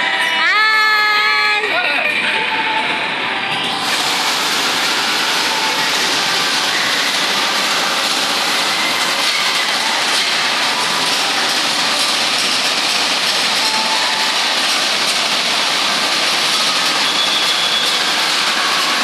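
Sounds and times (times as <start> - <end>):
roller coaster rolling rattle: 2.1 - 19.0.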